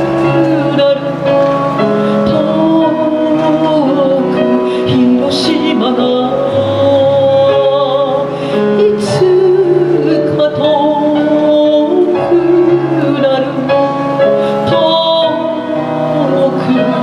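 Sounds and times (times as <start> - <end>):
instrumental accompaniment: 0.0 - 17.0
woman singing: 0.0 - 17.0.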